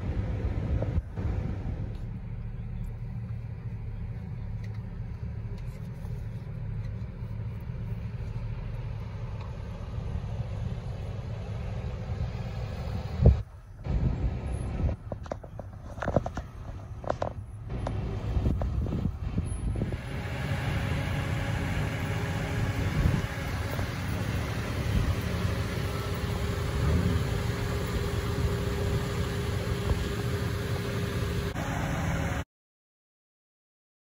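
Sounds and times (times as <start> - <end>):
engines rumbling: 0.0 - 32.4.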